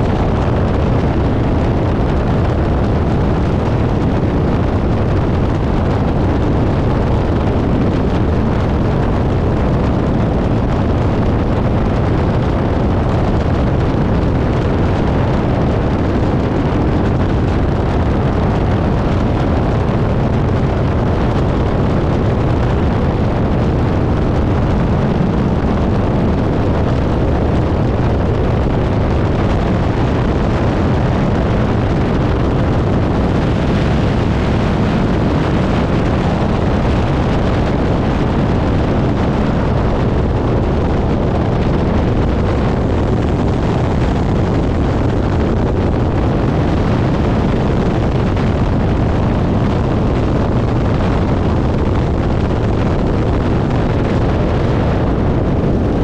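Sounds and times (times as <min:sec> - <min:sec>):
biplane engine drone: 0:00.0 - 0:56.0
wind buffeting microphone: 0:00.0 - 0:56.0.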